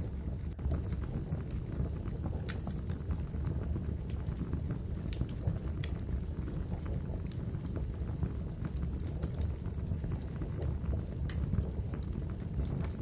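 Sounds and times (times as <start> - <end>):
campfire flames rumbling: 0.0 - 13.0.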